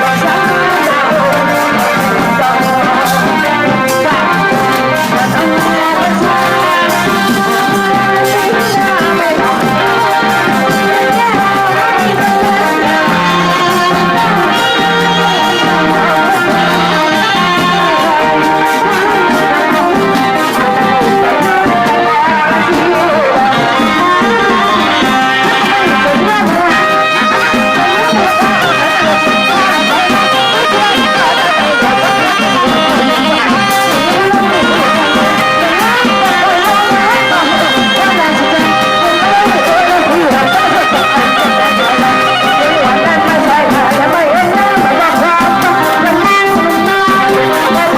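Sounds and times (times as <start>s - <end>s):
brass band playing: 0.0s - 47.9s.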